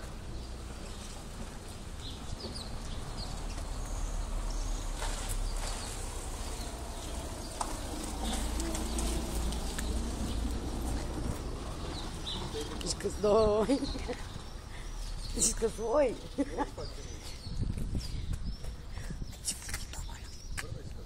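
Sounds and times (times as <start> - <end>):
steady low street rumble: 0.0 - 21.0.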